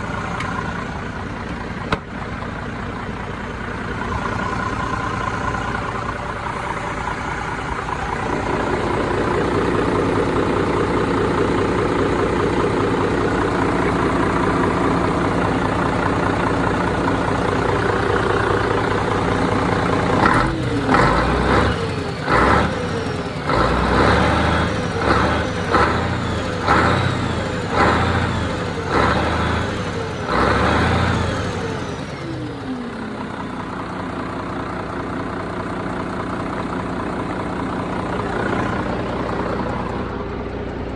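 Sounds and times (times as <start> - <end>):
diesel truck engine revving: 0.0 - 40.9.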